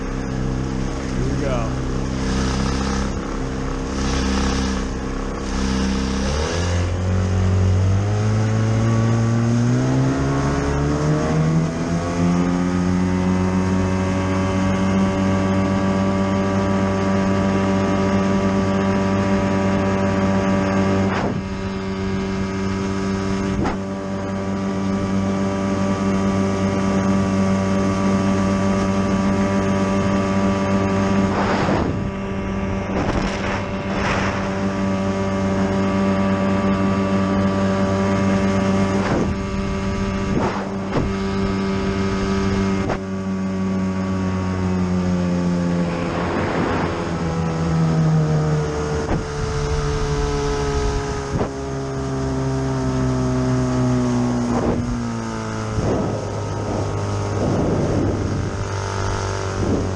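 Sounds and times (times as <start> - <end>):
outboard motor speeding up: 0.0 - 59.9.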